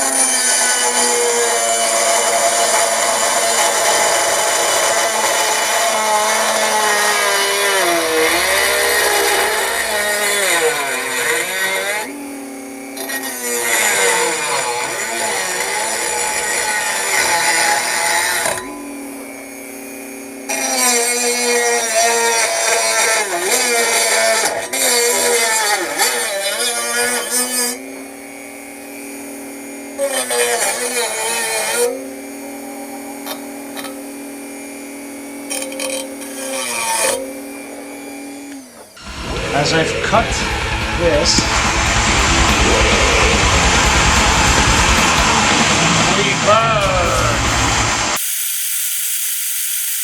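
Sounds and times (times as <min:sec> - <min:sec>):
power tool cutting steel: 0:00.0 - 0:50.0.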